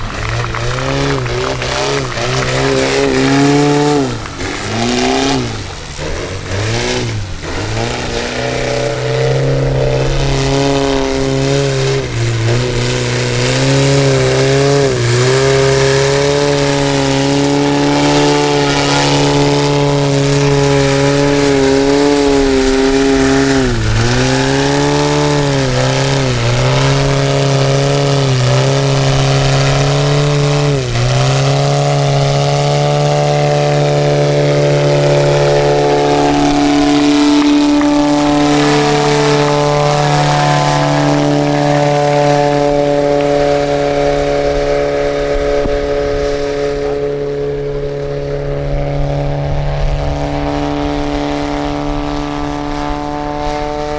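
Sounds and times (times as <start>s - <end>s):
model airplane engine running: 0.0s - 53.9s.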